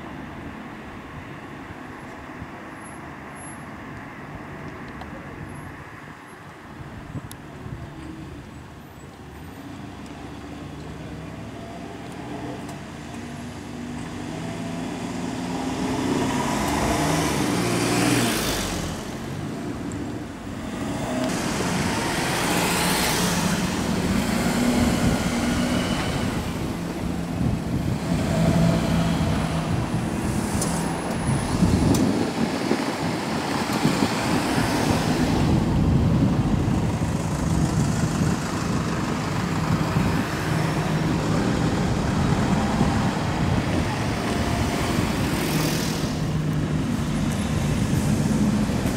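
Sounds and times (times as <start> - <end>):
cars and trucks passing: 0.0 - 48.9.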